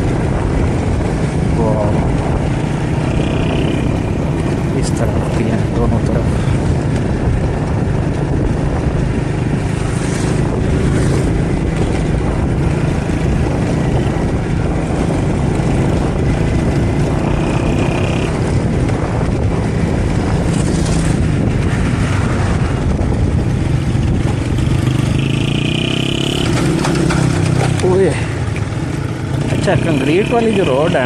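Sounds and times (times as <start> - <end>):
motorcycle engine running: 0.0 - 31.0
road and wind noise: 0.0 - 31.0.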